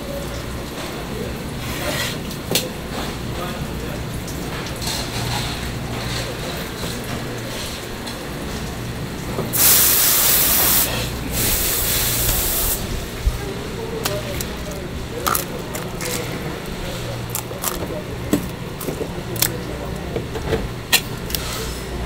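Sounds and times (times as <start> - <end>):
tap water running: 0.0 - 22.0
water spraying: 0.1 - 20.1.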